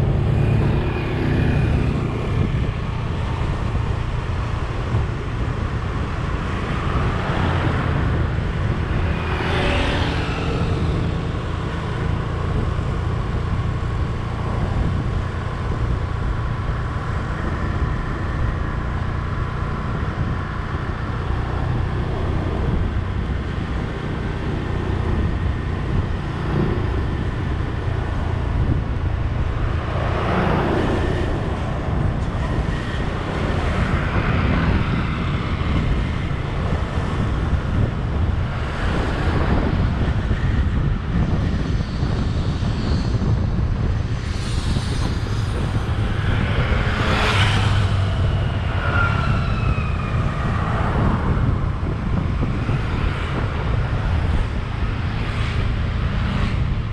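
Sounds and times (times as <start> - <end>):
road and wind rumble: 0.0 - 56.9
vehicles passing close by: 0.0 - 56.9.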